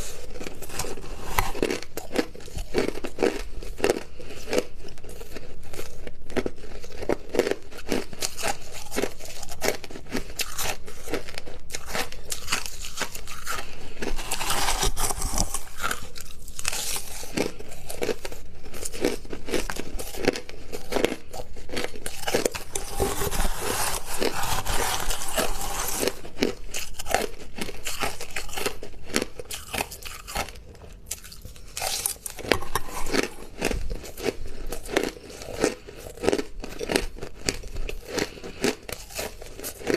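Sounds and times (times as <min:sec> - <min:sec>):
crunching of ice chewed: 0:00.0 - 0:39.9.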